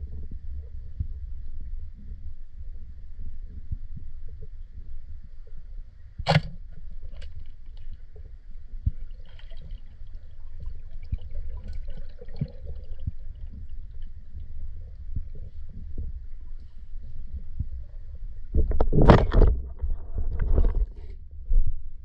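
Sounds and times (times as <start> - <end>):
underwater low rumble: 0.0 - 22.0.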